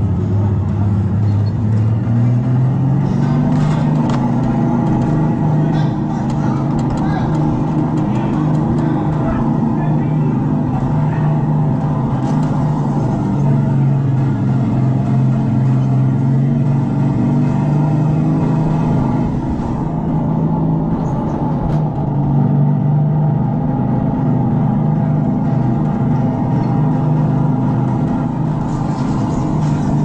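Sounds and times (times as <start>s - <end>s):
simulated engine drone from speaker: 0.0s - 30.0s.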